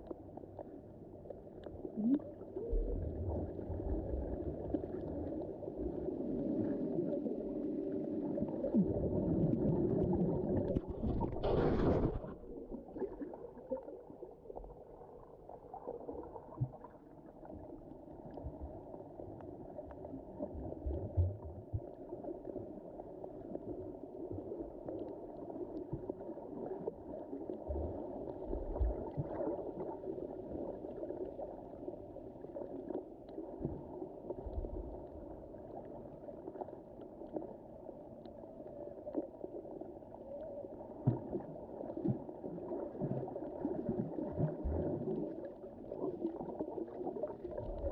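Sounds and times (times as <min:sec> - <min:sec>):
underwater wash of moving water: 0:00.0 - 0:47.9.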